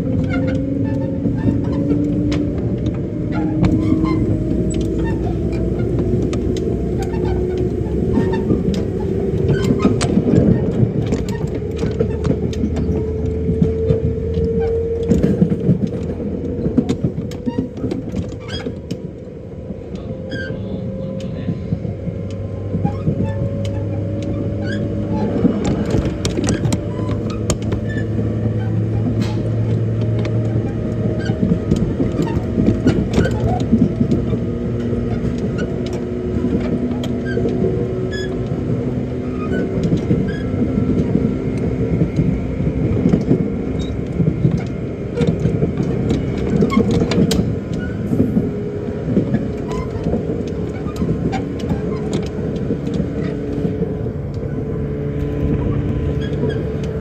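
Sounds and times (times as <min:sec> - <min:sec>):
train running gear rumble: 0:00.0 - 0:57.0
wheels clicking on track: 0:00.0 - 0:57.0.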